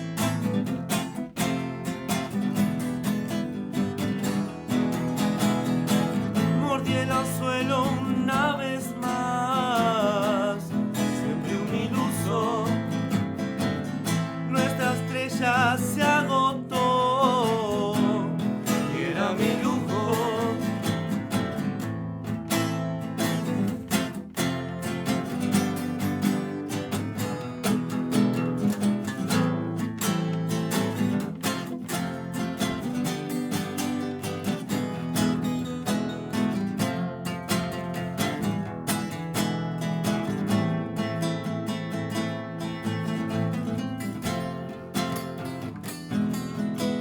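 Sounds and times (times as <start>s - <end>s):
strummed acoustic guitar: 0.0s - 47.0s.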